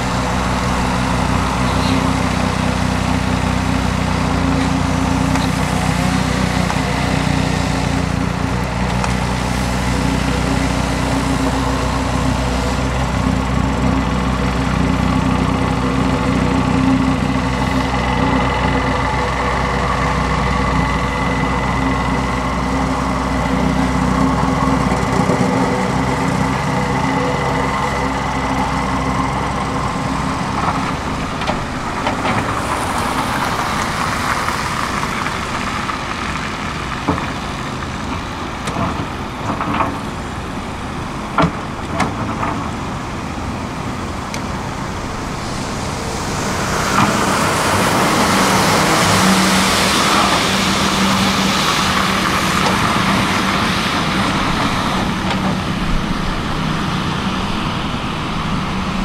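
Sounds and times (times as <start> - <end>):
diesel machinery running: 0.0 - 59.0.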